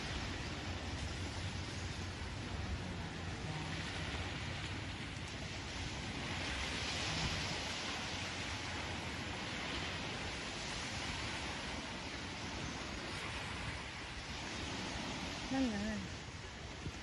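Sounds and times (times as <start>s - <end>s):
waves breaking on pebble beach: 0.0s - 17.0s.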